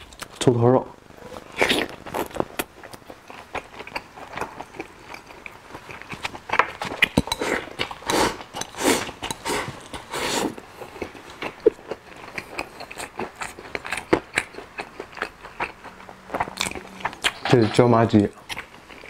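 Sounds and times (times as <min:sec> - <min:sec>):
wet chewing mouth sounds: 0:01.4 - 0:17.5, 0:18.3 - 0:19.0.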